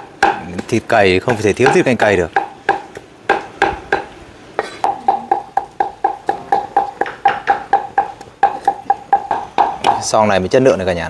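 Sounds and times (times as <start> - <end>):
cleaver chopping on wooden block: 0.0 - 4.1, 4.9 - 10.0.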